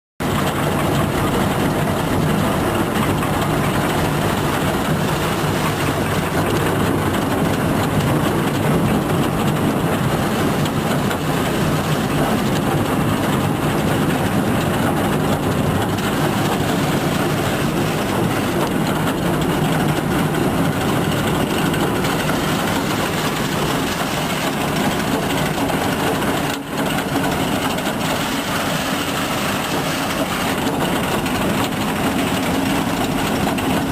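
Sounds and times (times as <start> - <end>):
tub grinder running: 0.2 - 33.9.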